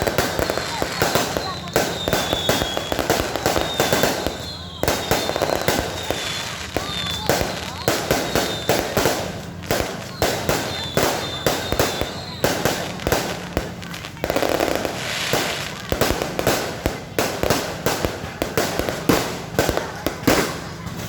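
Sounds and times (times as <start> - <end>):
fireworks bangs and crackles: 0.0 - 21.0
fireworks high whistles: 0.0 - 21.0.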